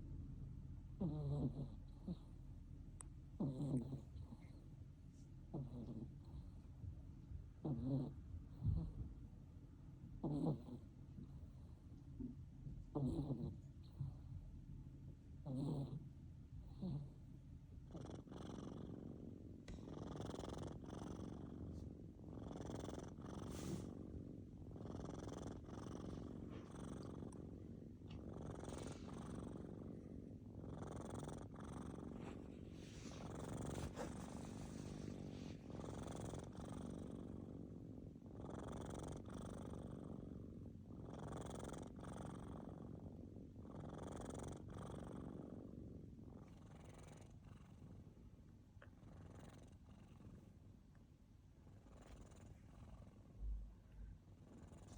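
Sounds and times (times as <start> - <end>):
kitten snoring: 0.9 - 4.7, 5.4 - 9.1, 10.1 - 14.5, 15.3 - 48.2, 48.8 - 50.6, 51.5 - 54.9.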